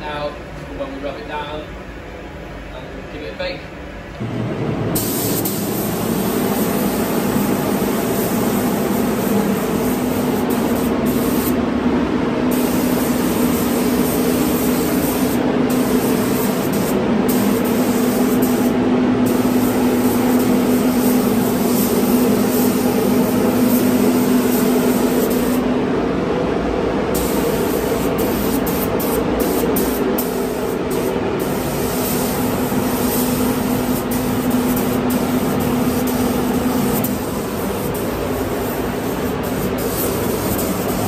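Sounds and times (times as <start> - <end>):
extraction fan hum: 0.0 - 41.0
spray gun hissing: 5.0 - 11.7, 12.4 - 25.7, 27.1 - 41.0.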